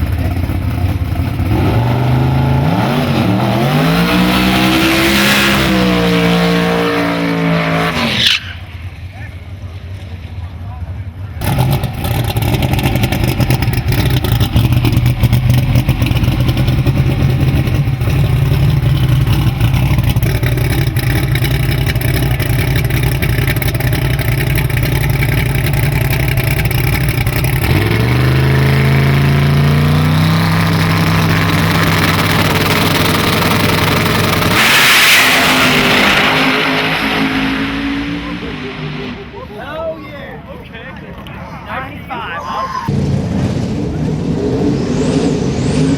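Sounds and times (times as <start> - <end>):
truck engine running rough: 0.0 - 6.8, 8.6 - 39.5.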